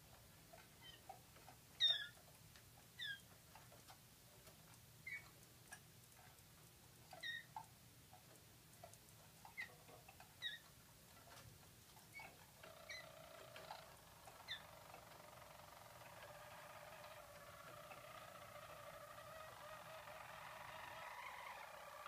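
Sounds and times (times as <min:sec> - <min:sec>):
canary rolling song: 0:00.0 - 0:22.0
canary chirps: 0:00.5 - 0:22.0.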